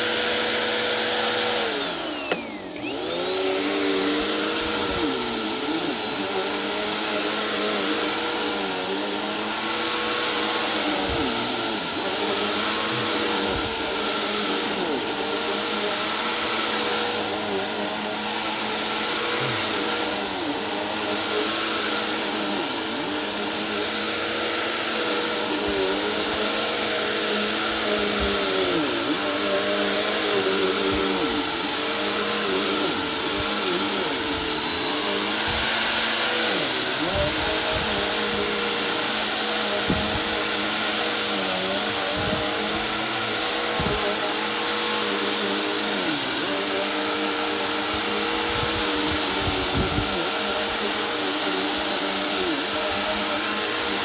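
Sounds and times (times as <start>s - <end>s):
vacuum cleaner running on rug: 0.0s - 54.0s.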